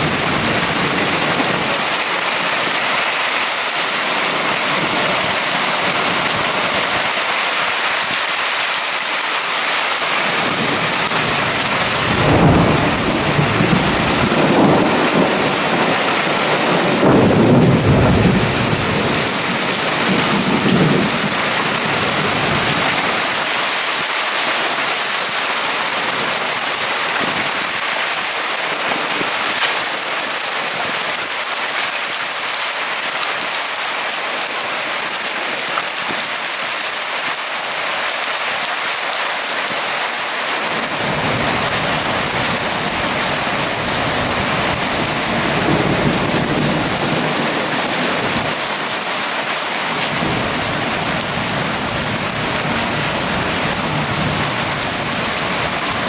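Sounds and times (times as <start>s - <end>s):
thunder rumbling: 0.0s - 7.6s, 10.2s - 32.0s, 40.6s - 56.0s
rain hissing: 0.0s - 56.0s.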